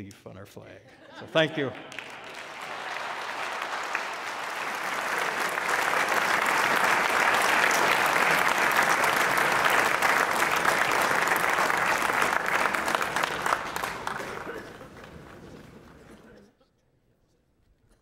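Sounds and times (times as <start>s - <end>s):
audience applauding: 1.2s - 16.3s.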